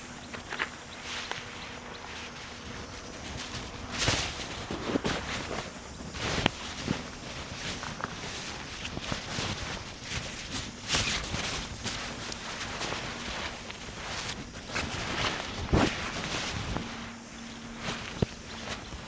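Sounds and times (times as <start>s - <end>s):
footsteps on ground: 0.0s - 19.0s
rustling scuffs: 0.0s - 19.0s.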